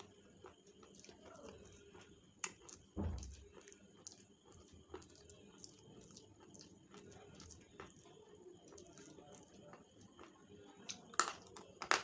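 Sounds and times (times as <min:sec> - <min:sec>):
crunching clicks of chewing: 0:00.0 - 0:11.8.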